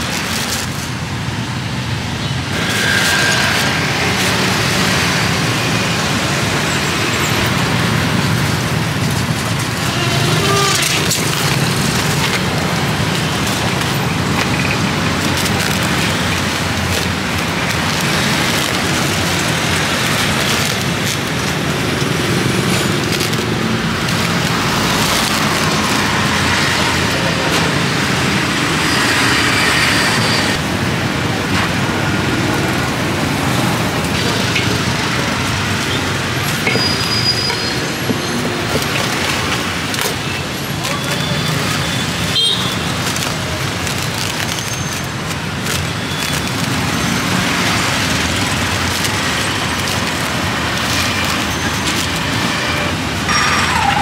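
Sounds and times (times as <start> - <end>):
street traffic noise: 0.0 - 54.0.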